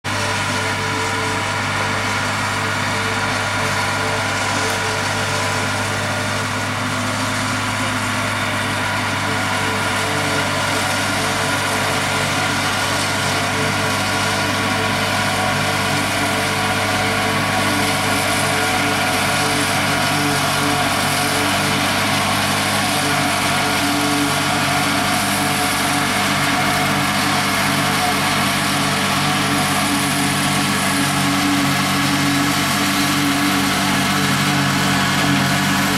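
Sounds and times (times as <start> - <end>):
forage harvester chopping corn: 0.0 - 35.9
tractor engine running under load: 0.0 - 35.9.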